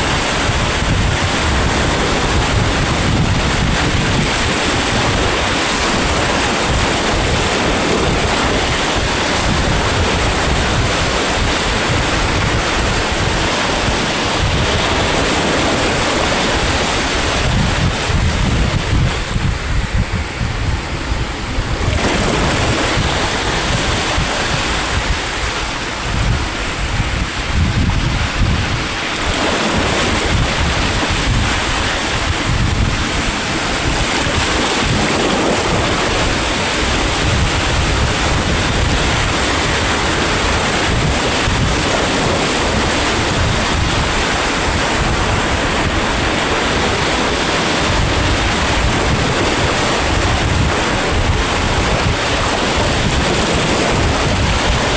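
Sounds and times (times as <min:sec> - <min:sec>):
sea waves breaking: 0:00.0 - 0:54.9
wind buffeting microphone: 0:00.0 - 0:54.9.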